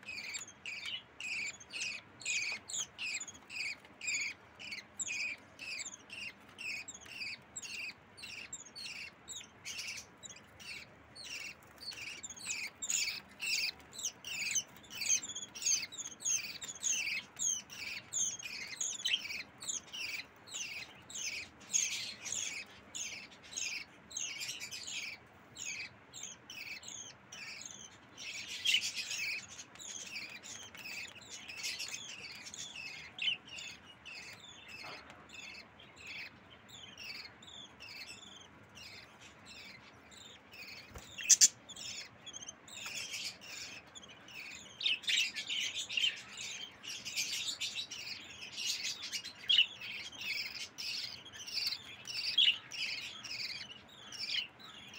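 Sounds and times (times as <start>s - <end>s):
budgerigar chicks chirping: 0.0s - 54.9s.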